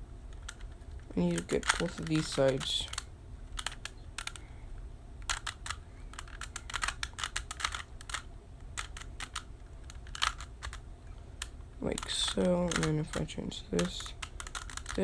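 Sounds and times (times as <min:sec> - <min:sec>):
puzzle cube twisting clicks: 0:00.3 - 0:04.4, 0:05.2 - 0:10.8, 0:11.4 - 0:15.0.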